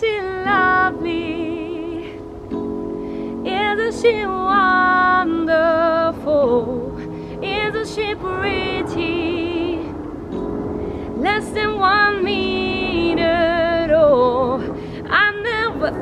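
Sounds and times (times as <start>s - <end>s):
woman singing with vibrato: 0.0s - 2.4s, 3.4s - 10.4s, 11.0s - 16.0s
digital piano chords: 0.0s - 16.0s.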